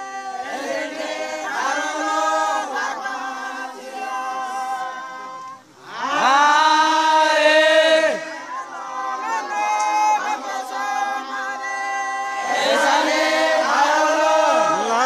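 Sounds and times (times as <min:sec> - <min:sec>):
men singing a cappella: 0:00.0 - 0:15.0.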